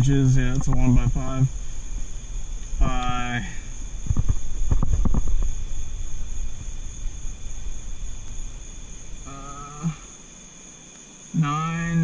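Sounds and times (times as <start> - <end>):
thin high-pitched whine: 0.0 - 12.0.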